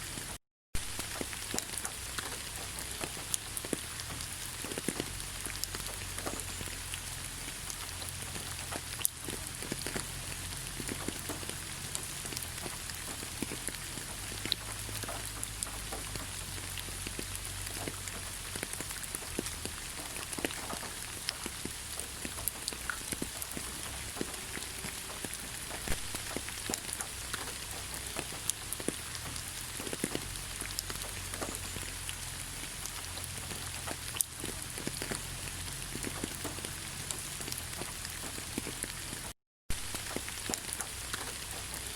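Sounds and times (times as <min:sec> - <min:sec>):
rain falling in forest: 0:00.0 - 0:41.9
raindrops pattering: 0:00.0 - 0:41.9.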